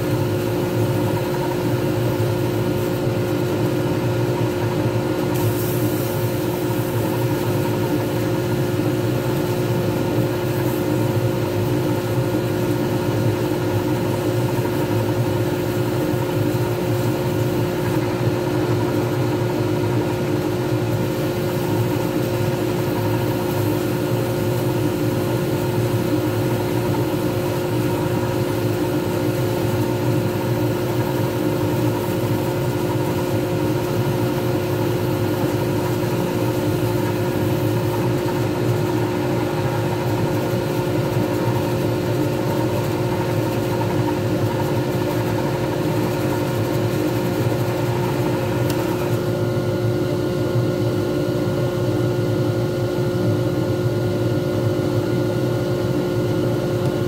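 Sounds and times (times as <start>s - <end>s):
lathe motor humming and whining: 0.0s - 57.0s.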